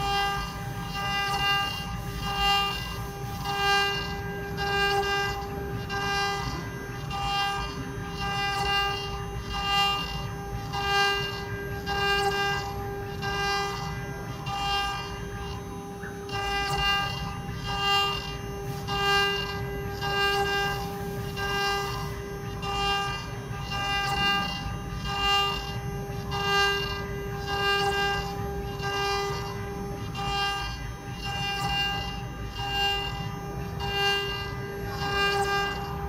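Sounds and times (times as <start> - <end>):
router bit multi-tone whine: 0.0 - 36.0
router spindle whine: 0.0 - 36.0.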